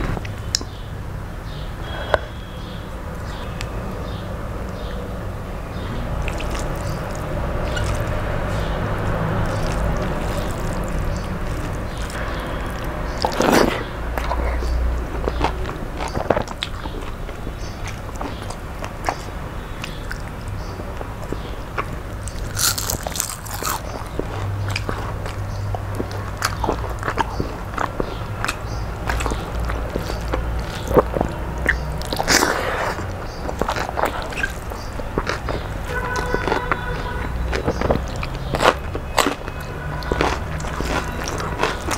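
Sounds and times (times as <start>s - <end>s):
person chewing food: 6.0s - 41.9s
loud crunches: 6.2s - 20.3s, 21.0s - 25.4s, 26.0s - 41.9s.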